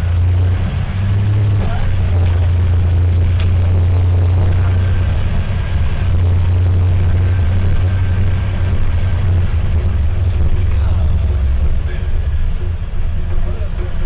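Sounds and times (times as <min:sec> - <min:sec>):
bus diesel engine drone: 0:00.0 - 0:14.0
compressor high whine: 0:00.0 - 0:14.0.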